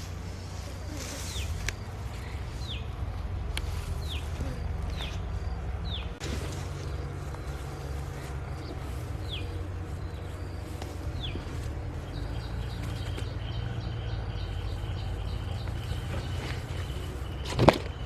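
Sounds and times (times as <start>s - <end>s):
repeated bird notes: 0.0s - 18.0s
steady low rumble: 0.0s - 18.0s.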